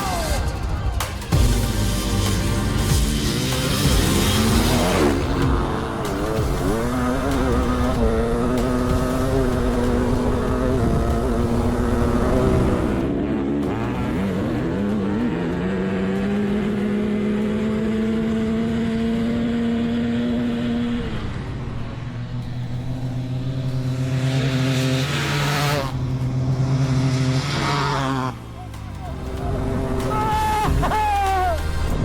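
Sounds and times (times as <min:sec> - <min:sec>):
dirt bike engines at full throttle: 0:00.0 - 0:32.0.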